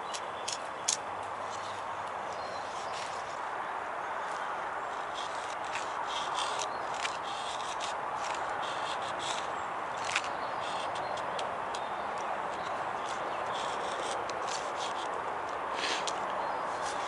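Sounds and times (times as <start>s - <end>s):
knife scraping wood: 0.0s - 3.4s, 4.2s - 15.2s, 15.8s - 17.0s.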